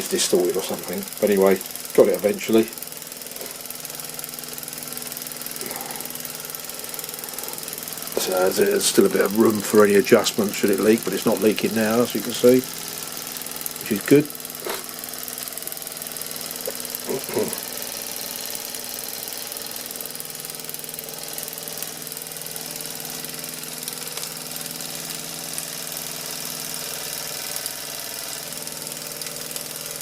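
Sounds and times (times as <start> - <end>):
toy steam engine running: 0.0 - 30.0.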